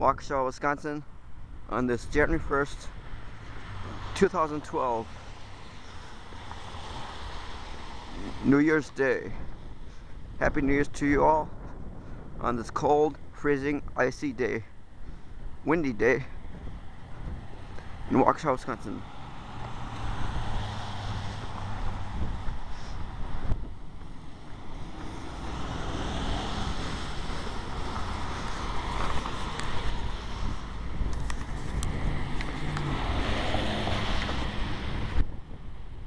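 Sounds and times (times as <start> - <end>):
wind blowing across microphone: 0.0 - 36.0.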